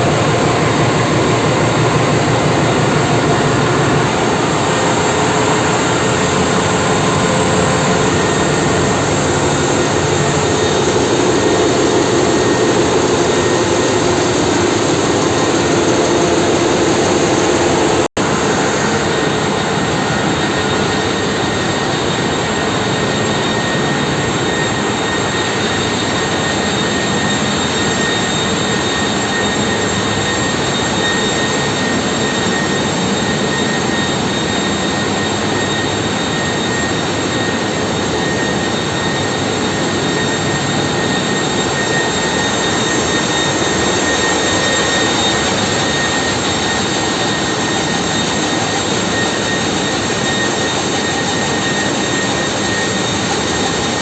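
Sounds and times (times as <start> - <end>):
constant high whine: 0.0 - 54.0
engine room machinery running: 0.0 - 54.0.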